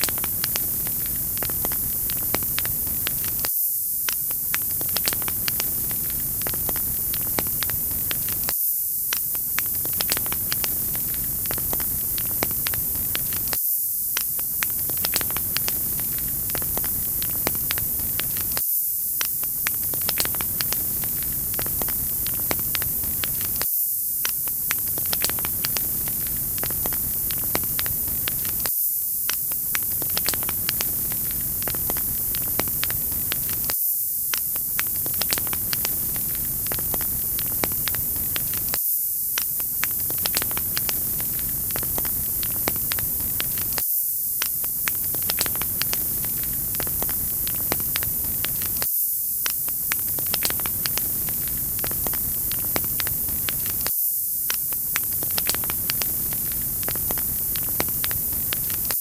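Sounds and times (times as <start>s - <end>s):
wood fire crackling: 0.0s - 3.5s, 4.1s - 8.5s, 9.1s - 18.6s, 19.2s - 23.6s, 24.3s - 28.7s, 29.3s - 33.7s, 34.3s - 38.8s, 39.4s - 43.8s, 44.4s - 53.9s, 54.5s - 59.0s.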